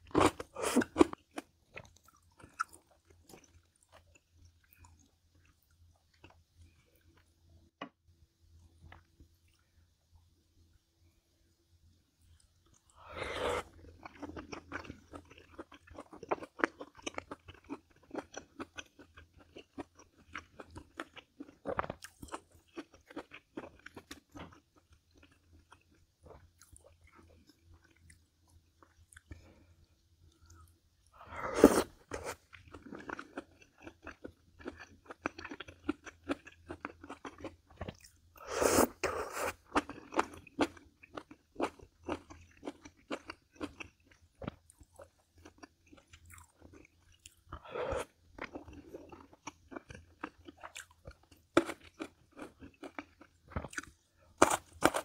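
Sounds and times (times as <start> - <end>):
person chewing crunchy food: 0.0 - 7.3, 12.3 - 55.0.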